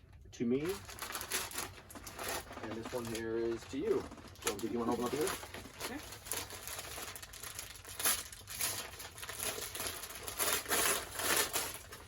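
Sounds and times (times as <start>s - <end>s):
wrapping paper crinkling and tearing: 0.6s - 12.0s.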